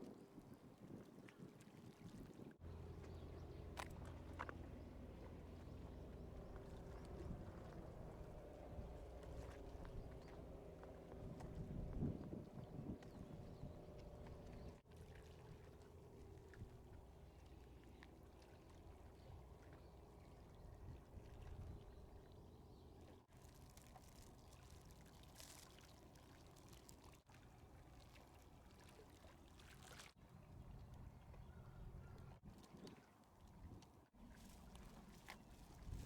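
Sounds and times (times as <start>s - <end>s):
water splashing around hull: 0.0s - 36.0s
boat engine rumble: 1.9s - 36.0s.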